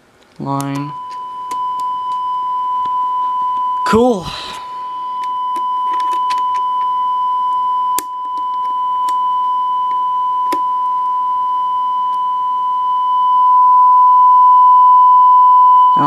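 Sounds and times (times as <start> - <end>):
steady test tone: 0.4 - 16.0.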